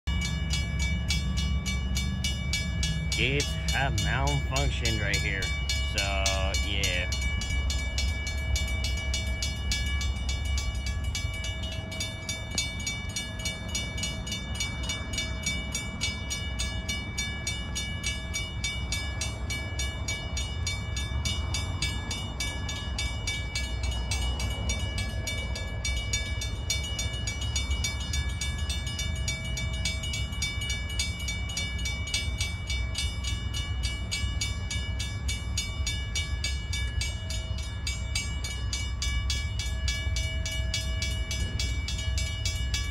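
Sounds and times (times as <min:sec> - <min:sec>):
railroad crossing bell ringing: 0:00.0 - 0:42.9.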